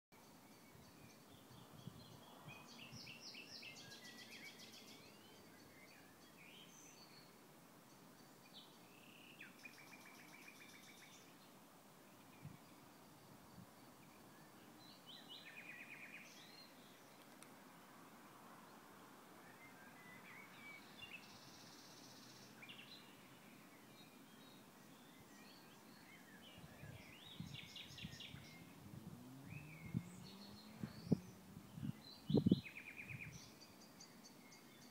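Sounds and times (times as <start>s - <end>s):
low steady hiss: 0.2s - 34.9s.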